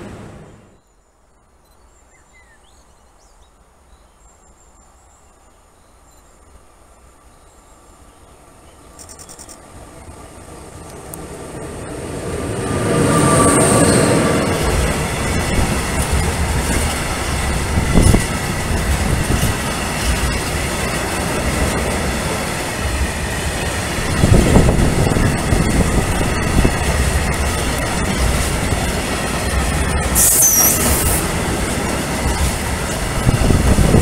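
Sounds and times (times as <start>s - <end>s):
electric locomotive passing: 0.0s - 0.8s, 6.9s - 34.0s.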